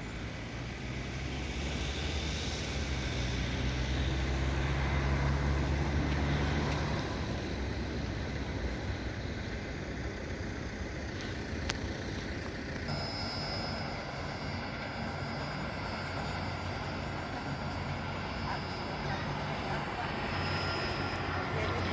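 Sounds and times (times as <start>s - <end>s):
vehicle engine passing: 0.0s - 12.8s, 14.9s - 21.9s
street traffic: 0.0s - 21.9s.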